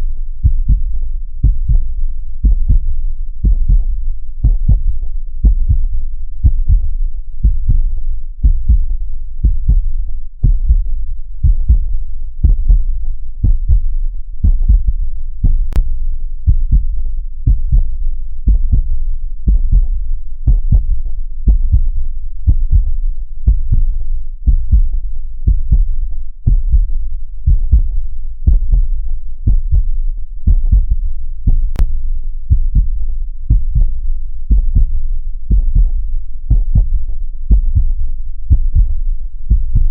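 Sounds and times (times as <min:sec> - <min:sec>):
heartbeat thumps: 0:00.4 - 0:39.9.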